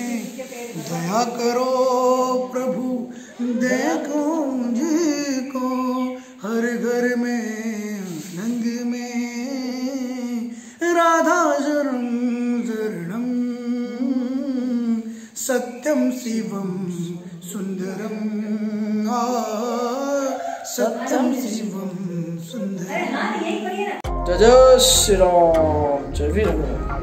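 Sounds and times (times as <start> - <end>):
man singing slow melody: 0.0 - 22.9, 24.0 - 27.0.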